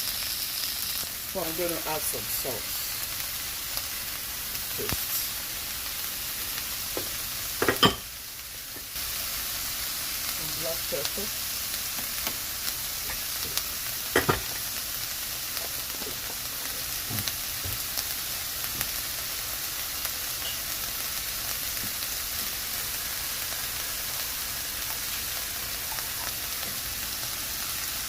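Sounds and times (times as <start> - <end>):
broccoli sizzling in a pan: 0.0 - 28.0.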